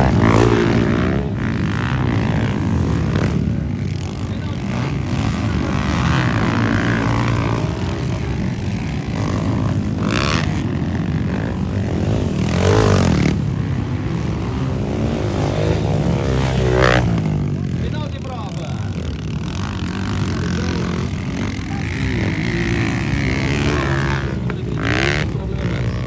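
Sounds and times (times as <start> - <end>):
dirt bike engines revving: 0.0 - 26.0
dirt bike passing: 0.0 - 26.0.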